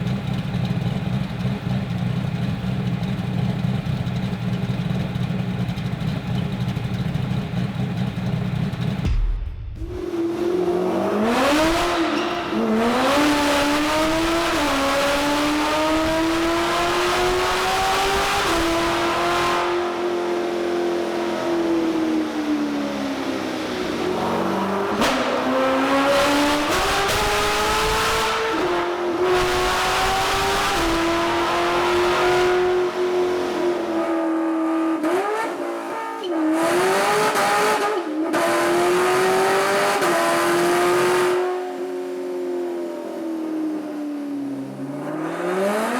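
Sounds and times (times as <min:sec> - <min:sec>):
car engine idling and revving: 0:00.0 - 0:09.1, 0:09.8 - 0:45.9.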